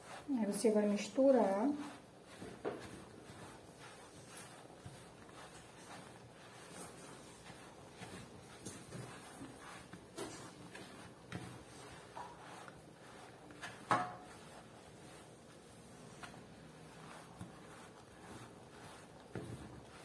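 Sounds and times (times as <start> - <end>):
spoon scraping dough in bowl: 0.0 - 20.0.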